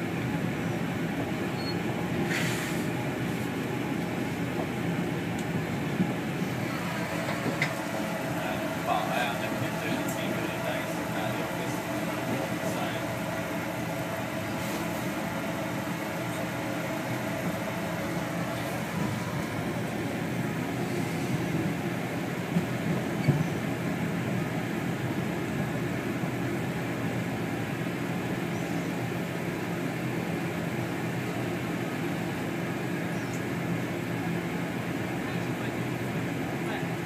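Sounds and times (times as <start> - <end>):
train interior hum: 0.0 - 37.0.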